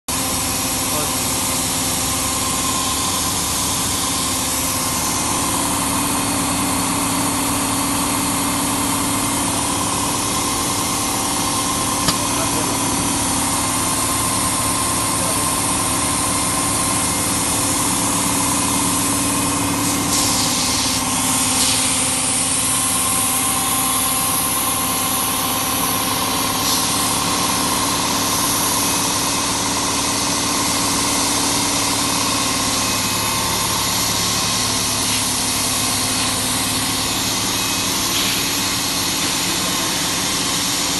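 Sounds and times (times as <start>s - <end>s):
seam welder humming and hissing: 0.1s - 40.9s.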